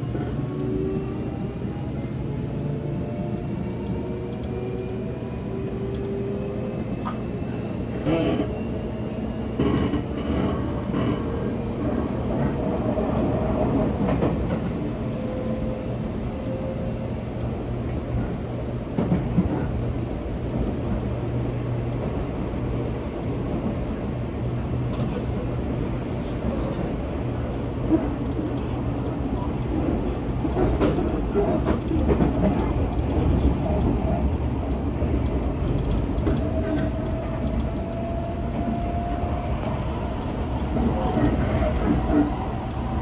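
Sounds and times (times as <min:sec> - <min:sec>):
train motors and wheels humming: 0:00.0 - 0:43.0.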